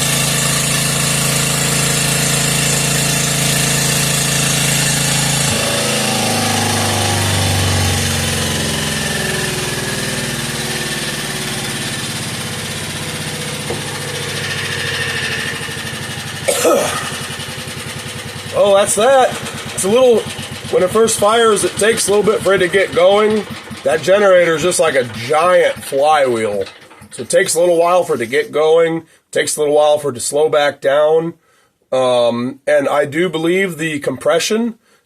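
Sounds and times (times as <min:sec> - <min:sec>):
generator engine running: 0:00.0 - 0:28.6
generator hum winding down: 0:00.0 - 0:28.6.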